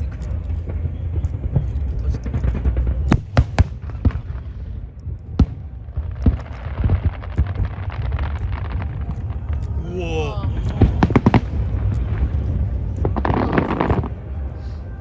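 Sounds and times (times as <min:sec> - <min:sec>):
fireworks bangs: 0:00.0 - 0:15.0
fireworks crackling: 0:00.0 - 0:15.0
low rumble: 0:00.0 - 0:15.0.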